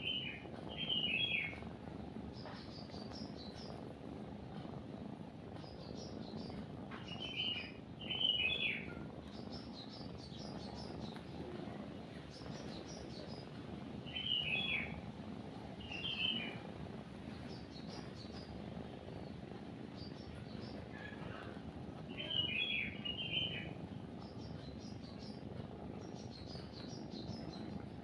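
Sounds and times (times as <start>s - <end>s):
birds chirping: 0.0s - 3.8s, 5.5s - 28.0s
cat purring: 0.0s - 28.0s.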